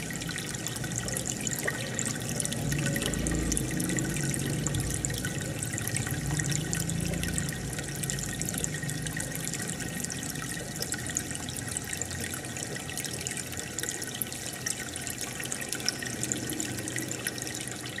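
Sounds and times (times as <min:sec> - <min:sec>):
aquarium water bubbling: 0:00.0 - 0:18.0.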